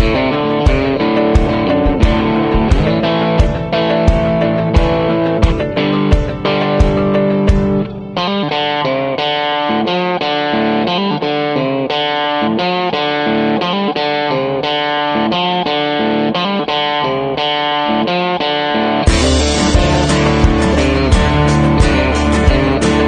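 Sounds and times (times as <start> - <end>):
electric guitar picking notes: 0.0 - 23.0.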